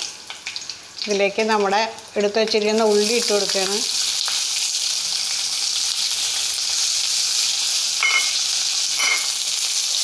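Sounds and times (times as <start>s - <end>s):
shallots sizzling in hot oil: 0.0s - 10.0s.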